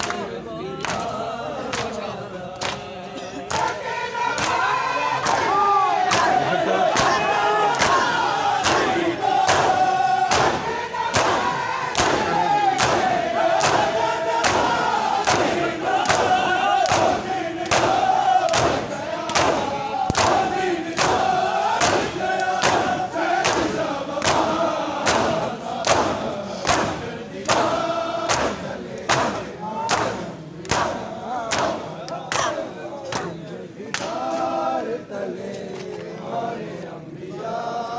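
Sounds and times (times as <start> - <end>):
crowd beating chests in unison: 0.0 - 34.8
voices chanting a lament: 0.0 - 37.9.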